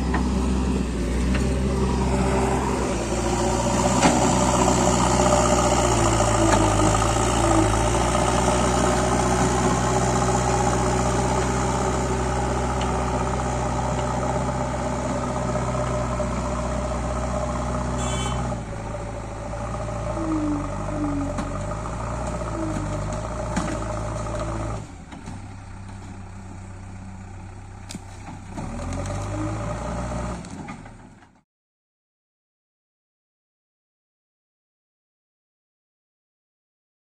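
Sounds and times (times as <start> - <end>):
diesel engine running: 0.0 - 31.4.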